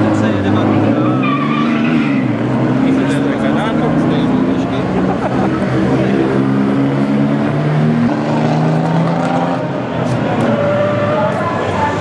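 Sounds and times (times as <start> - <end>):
sports car engines driving past: 0.0 - 12.0.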